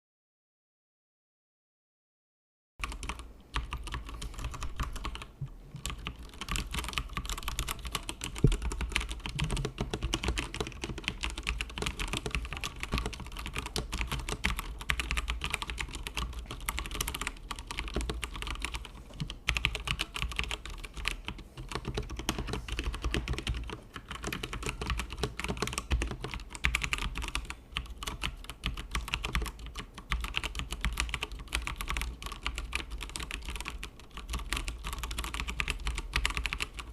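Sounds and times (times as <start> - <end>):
low steady hum: 2.8 - 36.9
mechanical keyboard typing: 2.8 - 36.9.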